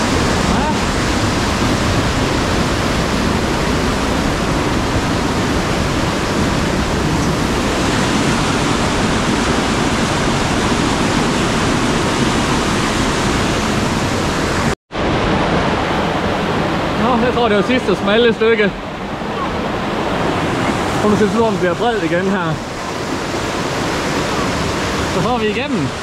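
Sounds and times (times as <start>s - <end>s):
water rushing through gorge: 0.0s - 26.0s.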